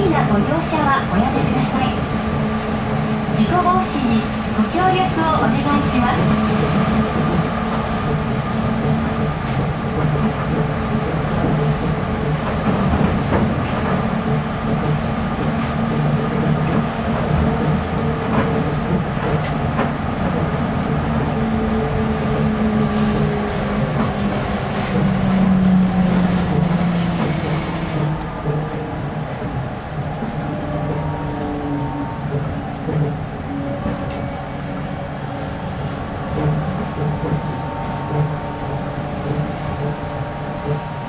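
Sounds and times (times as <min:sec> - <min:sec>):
tyres rumbling on concrete track: 0:00.0 - 0:41.0.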